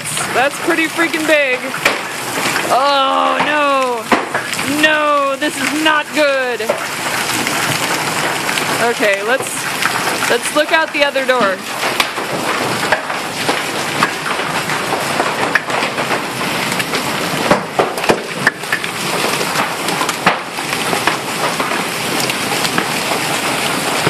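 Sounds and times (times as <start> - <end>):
hailstones knocking on roof: 0.0 - 24.0
heavy hail clattering: 0.0 - 24.0.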